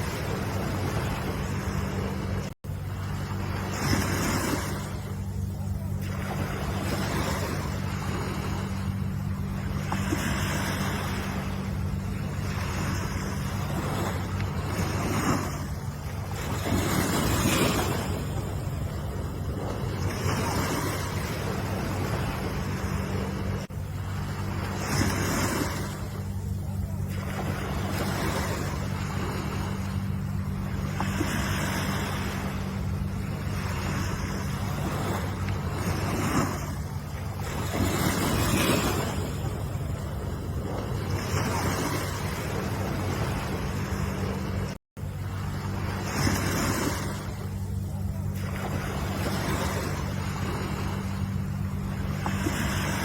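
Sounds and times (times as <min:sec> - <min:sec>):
low hum: 0:00.0 - 0:53.0
low rumble: 0:00.0 - 0:53.0
ocean waves rushing: 0:00.0 - 0:53.0.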